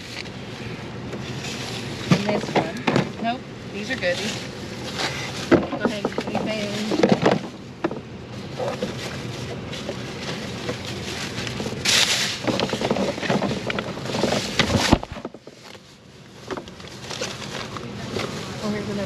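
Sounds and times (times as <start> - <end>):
cartons rustling and knocking: 1.1 - 19.0
paper bag rustling: 1.2 - 19.0.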